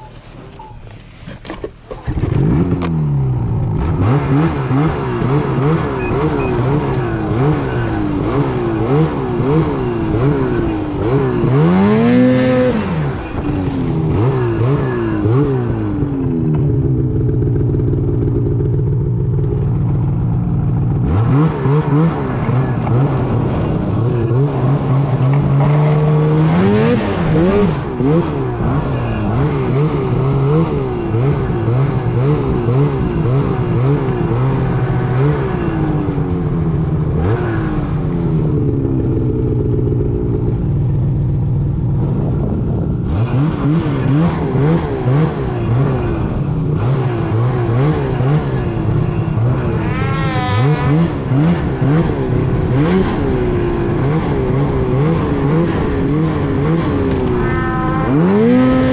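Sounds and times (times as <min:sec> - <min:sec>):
snowmobile engine revving: 0:01.4 - 0:58.9.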